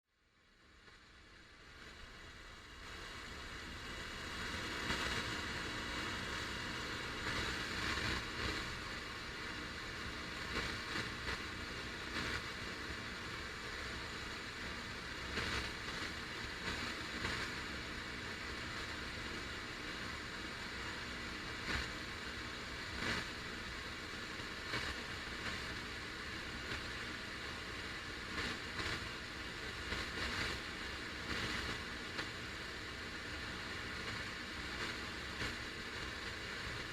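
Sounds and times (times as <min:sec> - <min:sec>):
radio static hiss: 0:00.2 - 0:36.9
static crackles: 0:00.5 - 0:36.9.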